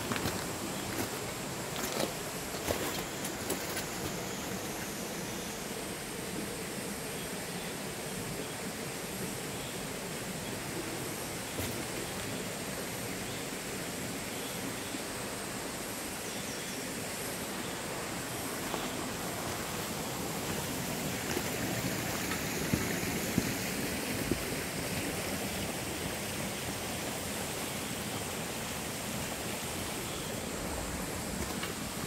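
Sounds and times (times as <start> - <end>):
stream running over rocks: 0.0 - 32.0.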